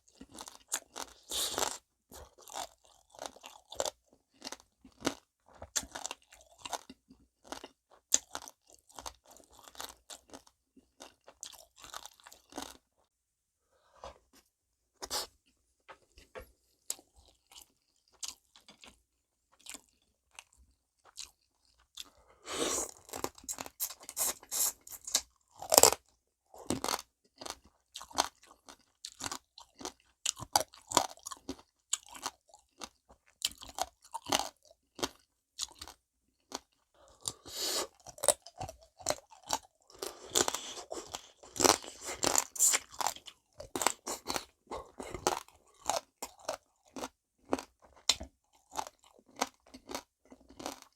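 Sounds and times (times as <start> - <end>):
crunching and chewing crab shells: 0.0 - 13.1, 16.9 - 50.9.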